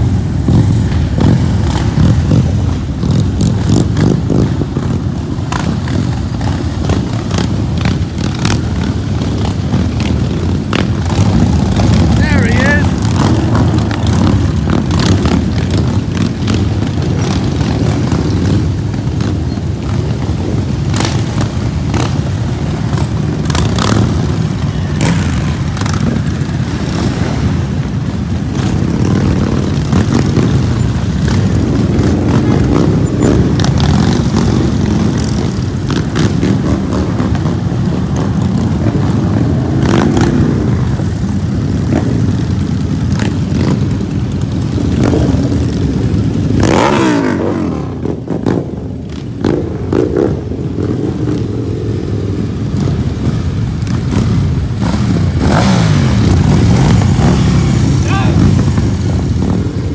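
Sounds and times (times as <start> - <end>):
motorcycle engines rumbling: 0.0 - 59.9.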